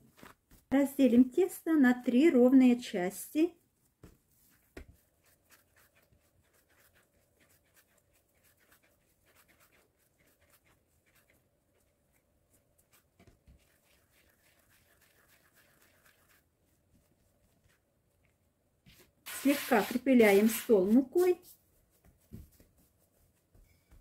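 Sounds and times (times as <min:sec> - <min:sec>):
hands rubbing and tapping dough: 0:00.0 - 0:00.9, 0:03.8 - 0:24.0.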